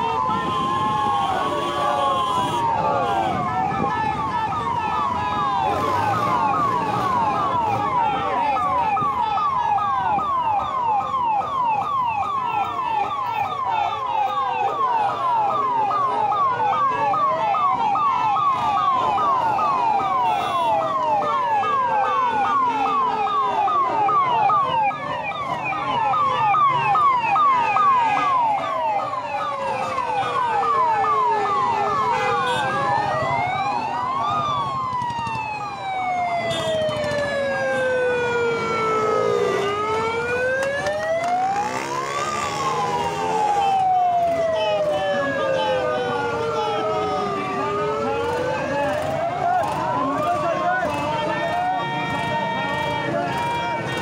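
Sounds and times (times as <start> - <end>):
siren wailing: 0.0 - 54.0
siren yelping: 0.0 - 54.0.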